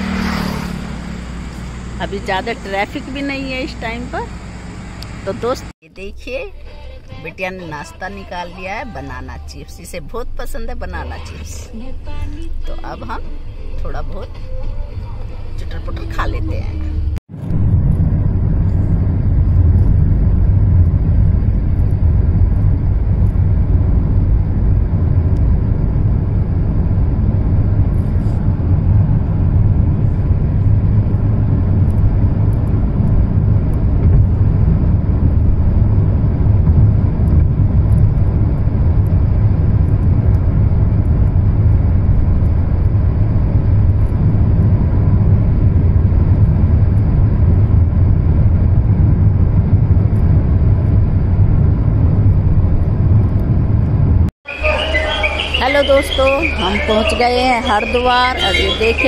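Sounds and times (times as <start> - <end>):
car cabin road and wind noise: 0.0 - 59.0.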